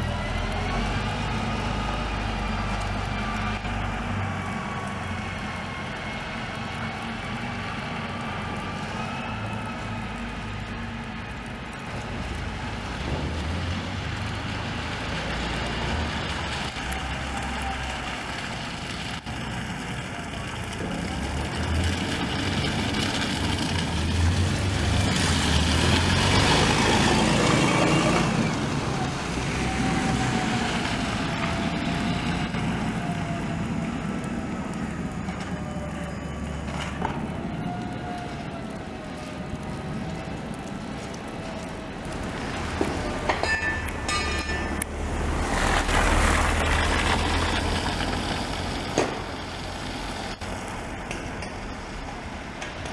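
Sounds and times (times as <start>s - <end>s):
bus driving past on wet cobbles: 0.0s - 52.9s
bus engines rumbling: 0.0s - 52.9s.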